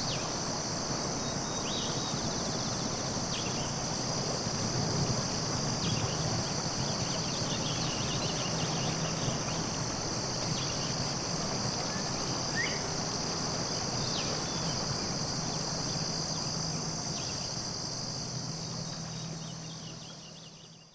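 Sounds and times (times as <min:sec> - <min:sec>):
insects chorus: 0:00.0 - 0:20.9.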